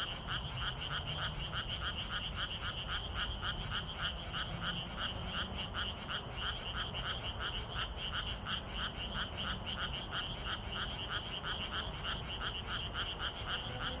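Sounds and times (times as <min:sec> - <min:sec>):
frog chorus: 0:00.0 - 0:14.0
pulsed frog croak: 0:00.0 - 0:14.0.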